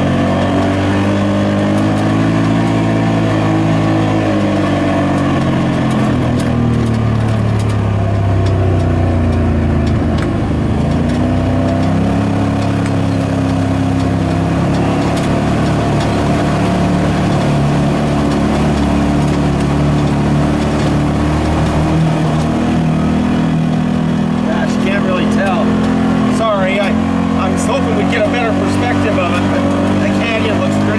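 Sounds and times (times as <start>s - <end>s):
road noise: 0.0s - 30.9s
utility vehicle engine running: 0.0s - 30.9s.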